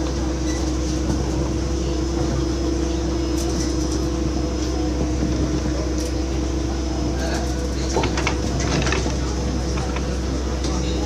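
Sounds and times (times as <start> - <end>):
constant hum: 0.0 - 11.0
monorail car rumbling: 0.0 - 11.0.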